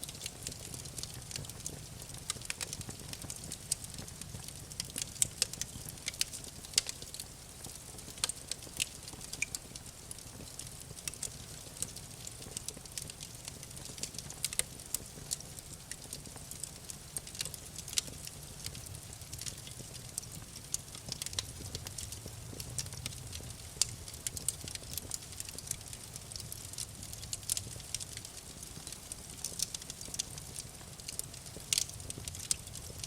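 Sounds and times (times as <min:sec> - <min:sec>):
wood fire crackling in fireplace: 0:00.0 - 0:33.0.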